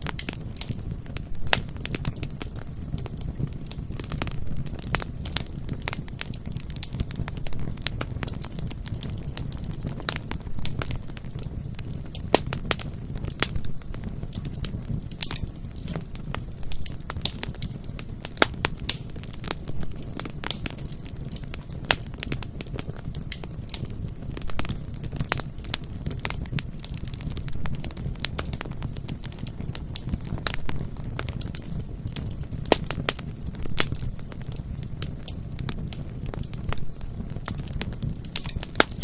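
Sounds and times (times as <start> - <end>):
burning wood crackling and popping: 0.0 - 39.0
low rumble of flames: 0.0 - 39.0.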